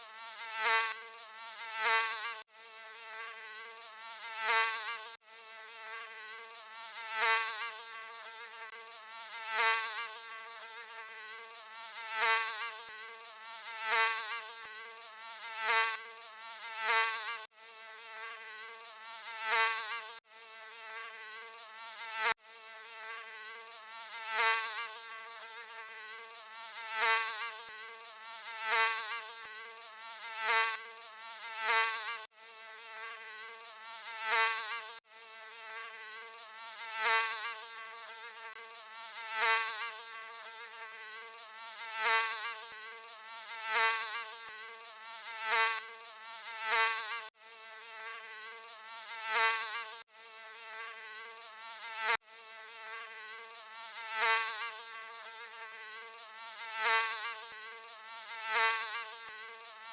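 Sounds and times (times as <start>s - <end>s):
mosquito buzzing: 0.0s - 59.9s.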